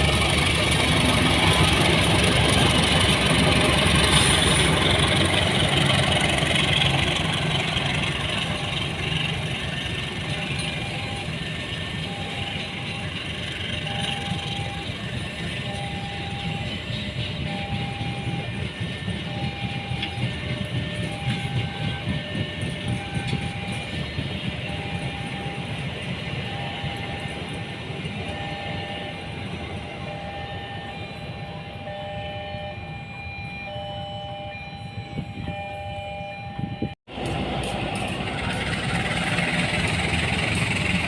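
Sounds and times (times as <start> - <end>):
train rumbling past: 0.0 - 41.0.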